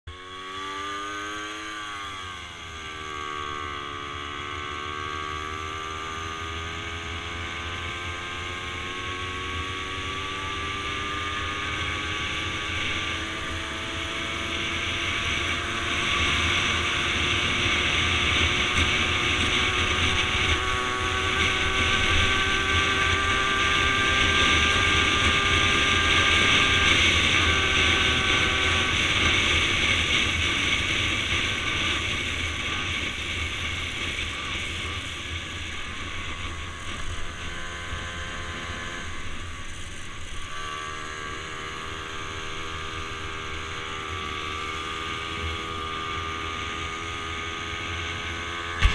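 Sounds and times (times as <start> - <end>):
wind and road noise: 0.0 - 48.9
moped engine running: 0.1 - 48.9.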